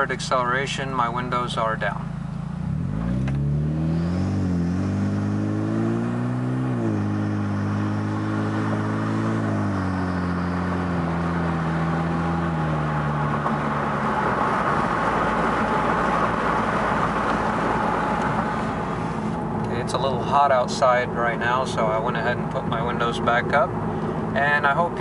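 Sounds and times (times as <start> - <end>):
wind and road noise: 0.0 - 25.0
car engine accelerating: 1.2 - 25.0.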